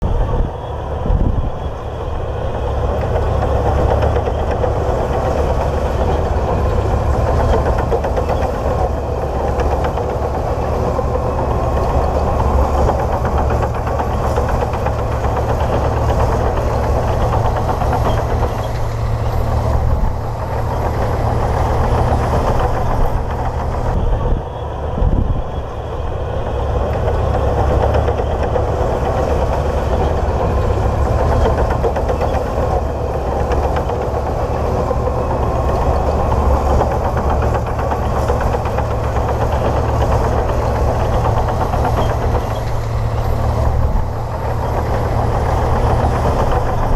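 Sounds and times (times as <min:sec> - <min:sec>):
bulldozer diesel engine humming: 0:00.0 - 0:46.9.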